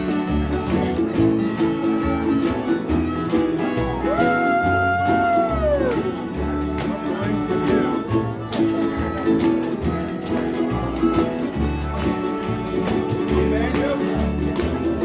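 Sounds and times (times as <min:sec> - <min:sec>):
acoustic guitars strumming: 0:00.0 - 0:15.0
fiddle: 0:00.0 - 0:15.0
harmonica: 0:00.0 - 0:15.0
upright bass: 0:00.0 - 0:15.0.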